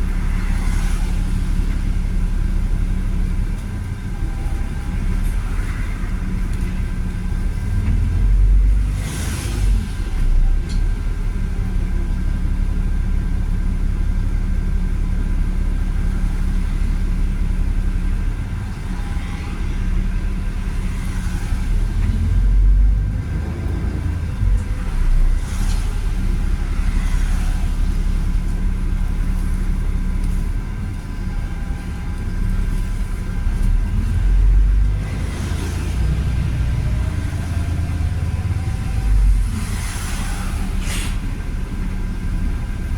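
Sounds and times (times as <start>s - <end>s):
bus engine rumble: 0.0s - 42.9s.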